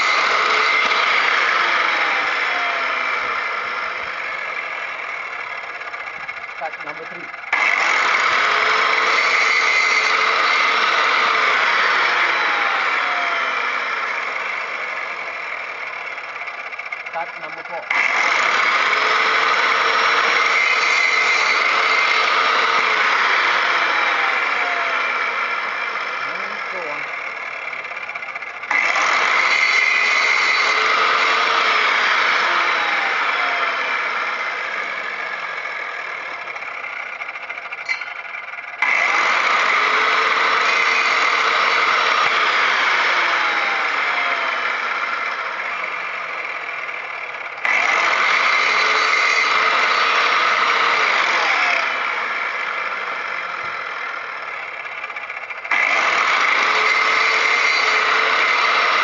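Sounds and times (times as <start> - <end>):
miter saw cutting stone: 0.0 - 59.0.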